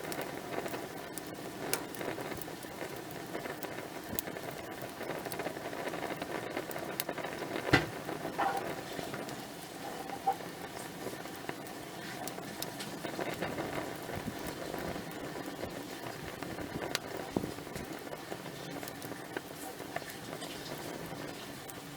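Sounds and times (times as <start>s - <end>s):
campfire crackling and hissing: 0.0s - 21.9s.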